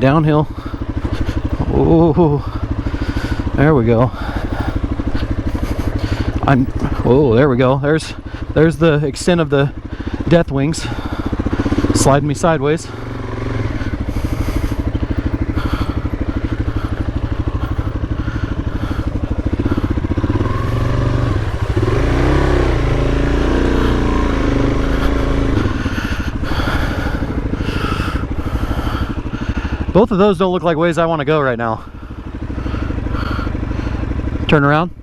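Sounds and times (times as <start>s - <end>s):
motorcycle engine at low revs: 0.0s - 35.0s.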